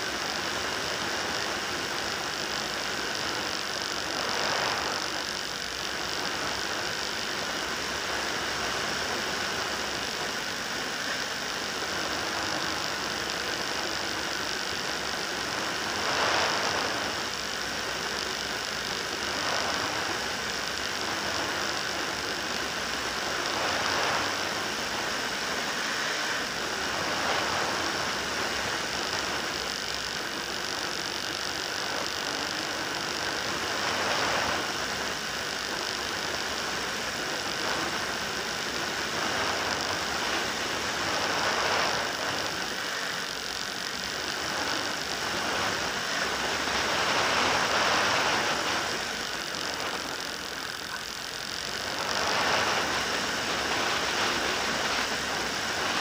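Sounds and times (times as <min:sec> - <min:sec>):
model aircraft motor and propeller: 0:00.0 - 0:56.0.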